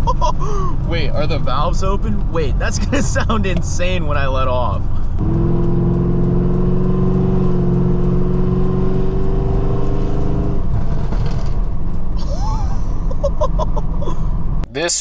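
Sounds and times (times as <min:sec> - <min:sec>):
car engine accelerating drone: 0:00.0 - 0:15.0.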